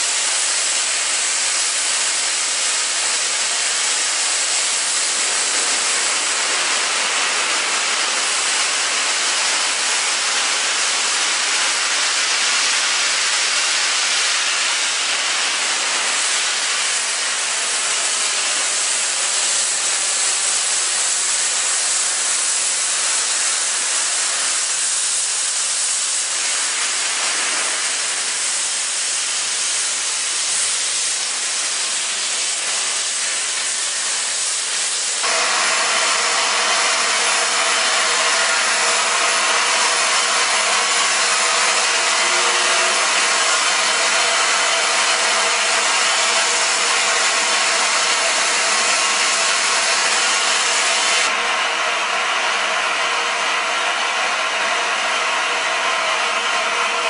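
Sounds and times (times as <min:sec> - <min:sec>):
steam hissing from locomotive: 0:00.0 - 0:57.0.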